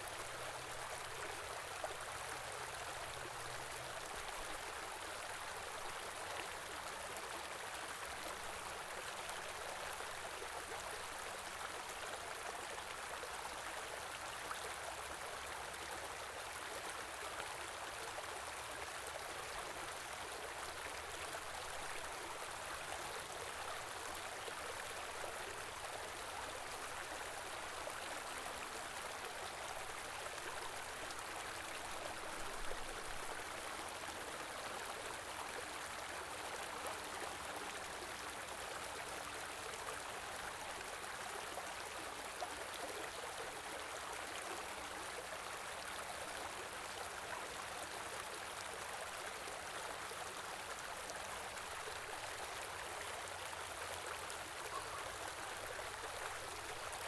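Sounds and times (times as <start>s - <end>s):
small stream flowing: 0.0s - 57.0s.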